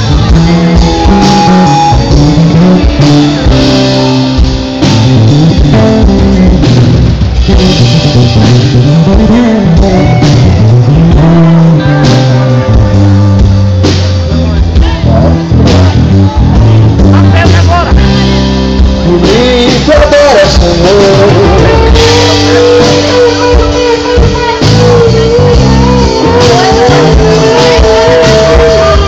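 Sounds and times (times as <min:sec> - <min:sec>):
live band playing a worship song: 0:00.0 - 0:29.0.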